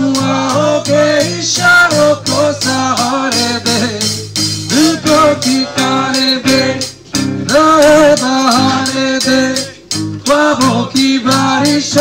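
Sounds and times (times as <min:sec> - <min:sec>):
drum kit: 0:00.0 - 0:12.0
man singing: 0:00.0 - 0:12.0.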